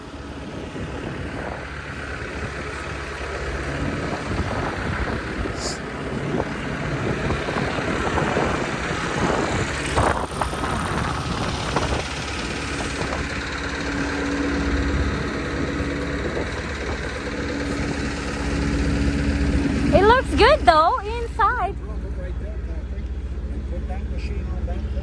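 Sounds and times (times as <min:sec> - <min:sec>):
wind noise on microphone: 0:00.0 - 0:20.6
low hum: 0:00.0 - 0:25.0
machine engine running: 0:00.0 - 0:25.0.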